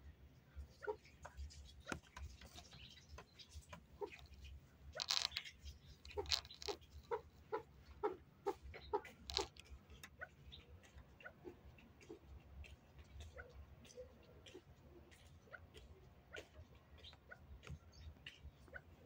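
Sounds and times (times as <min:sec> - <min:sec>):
birds pecking at grain: 0:00.6 - 0:19.0
soft bird clucks: 0:00.6 - 0:19.0.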